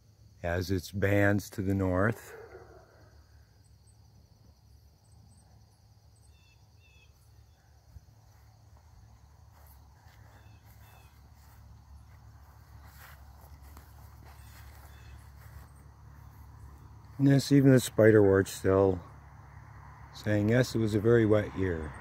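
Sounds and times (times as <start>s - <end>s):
crickets trilling: 0.0s - 22.0s
faint low rumble: 2.3s - 22.0s.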